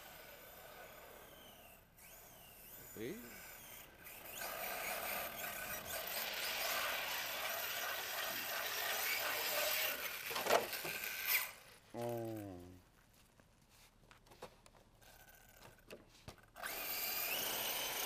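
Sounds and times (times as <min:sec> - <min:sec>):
toy truck drivetrain whirring: 0:00.0 - 0:12.7, 0:15.0 - 0:18.0.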